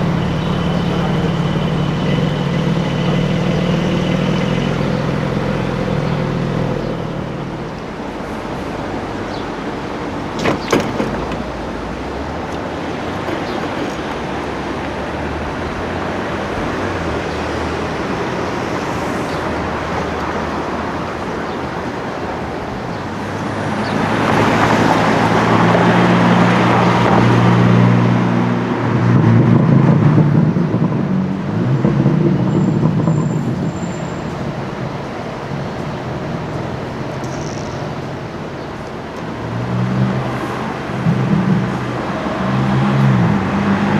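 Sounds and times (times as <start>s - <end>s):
sports car driving past: 0.0s - 43.9s
street traffic: 0.0s - 43.9s.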